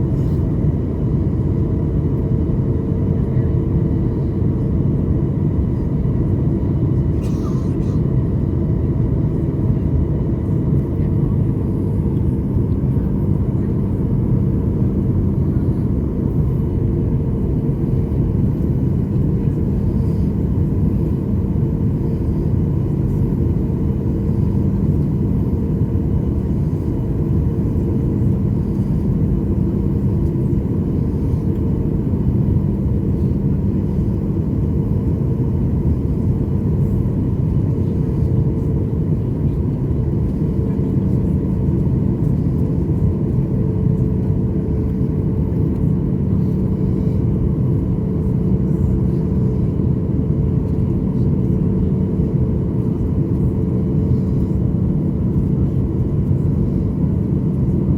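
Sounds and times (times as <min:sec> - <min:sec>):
constant cabin hum: 0:00.0 - 0:57.9
jet engines and airflow rumble: 0:00.0 - 0:57.9.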